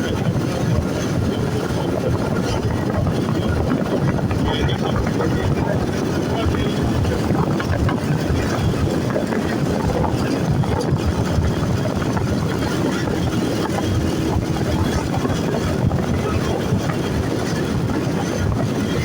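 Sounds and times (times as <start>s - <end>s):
vehicle engine road and wind noise: 0.0s - 19.0s.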